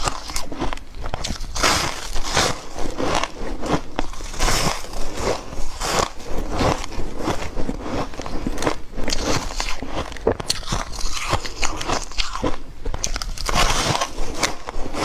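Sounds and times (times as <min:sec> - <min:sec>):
crunching ice: 0:00.0 - 0:15.0.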